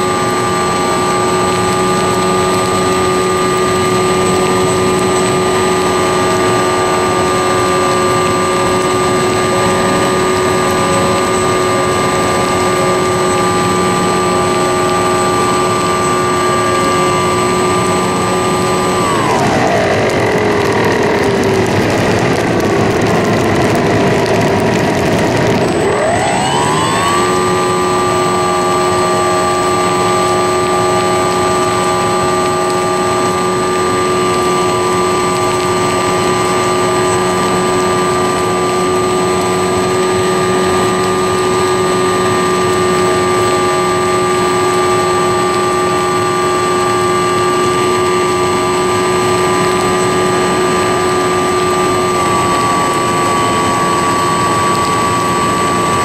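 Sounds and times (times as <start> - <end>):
model airplane motor droning: 0.0 - 56.0.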